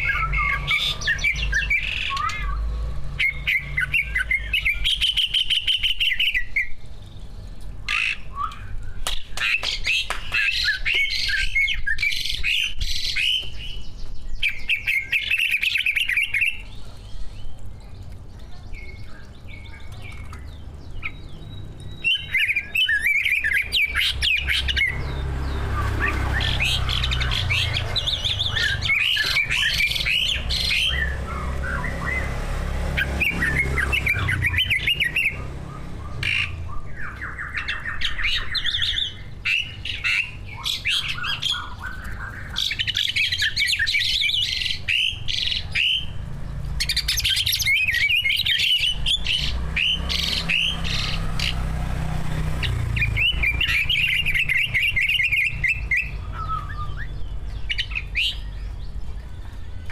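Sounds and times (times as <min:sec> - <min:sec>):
birds chattering and warbling: 0:00.0 - 0:59.9.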